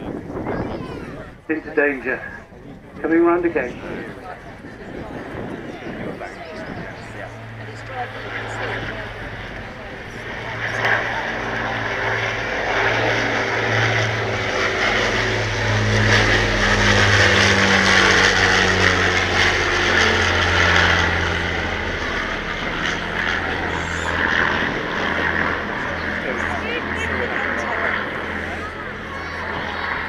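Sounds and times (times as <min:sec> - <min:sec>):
propeller aircraft engines droning: 0:00.0 - 0:30.0.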